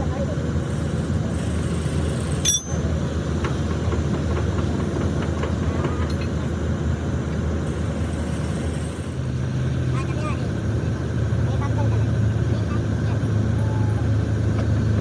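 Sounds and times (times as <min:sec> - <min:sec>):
low machine noise: 0:00.0 - 0:15.0.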